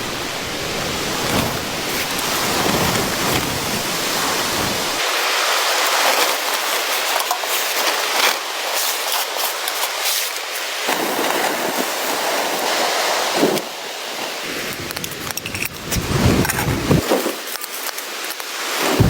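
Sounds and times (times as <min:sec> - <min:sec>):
blizzard wind and driven snow: 0:00.0 - 0:19.0.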